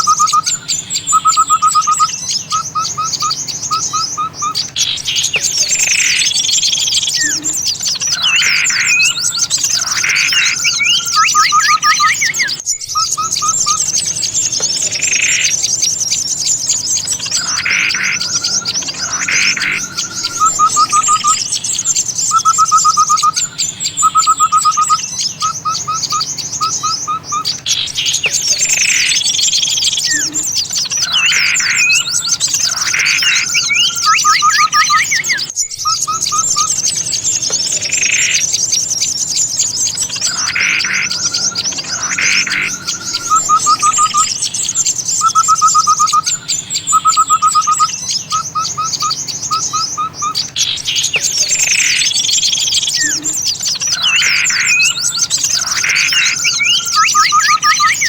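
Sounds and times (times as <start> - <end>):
rapid low bird trills: 0.0 - 58.0
songbirds twittering: 0.0 - 58.0
sweeping bird calls: 0.0 - 58.0.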